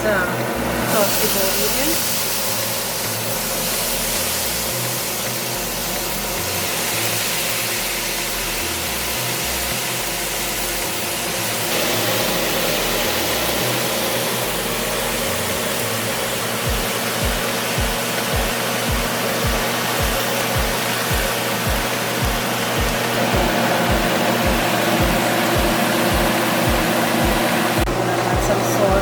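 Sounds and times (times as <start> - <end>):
stove humming: 0.0 - 29.0
vegetables frying hiss: 0.0 - 29.0.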